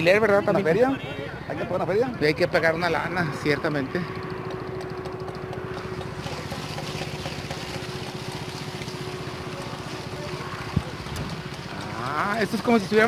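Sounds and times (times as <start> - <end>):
power trowel engine humming: 2.5 - 13.0.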